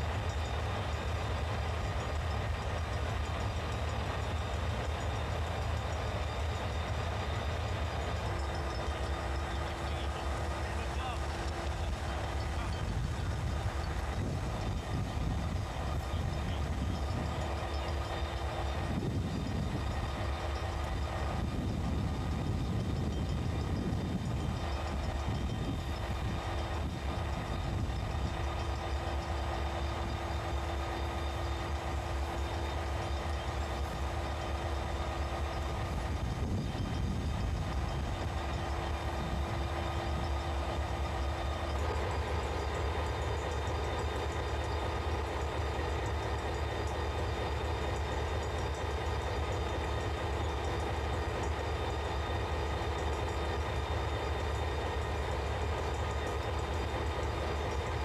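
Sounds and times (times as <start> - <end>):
diesel locomotive idling: 0.0 - 58.0.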